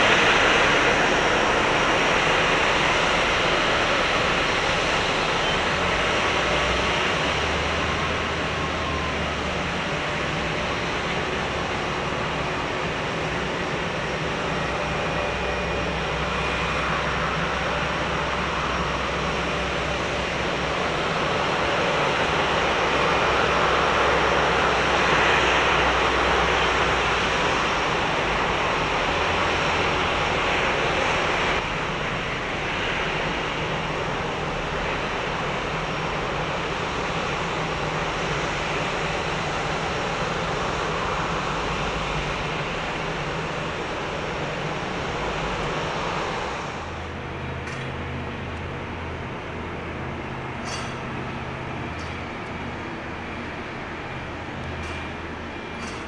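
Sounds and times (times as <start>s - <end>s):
jet engines humming: 0.0s - 56.0s.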